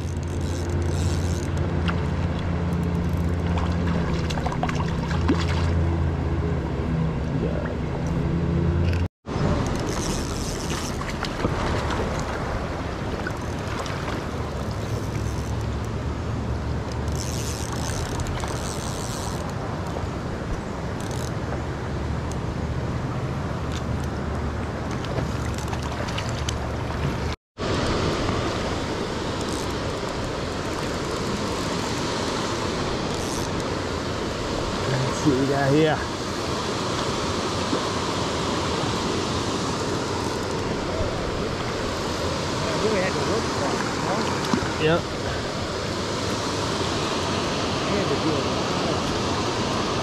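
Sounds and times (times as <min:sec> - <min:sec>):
flowing creek water: 0:00.0 - 0:06.0, 0:09.2 - 0:22.1, 0:23.4 - 0:50.0.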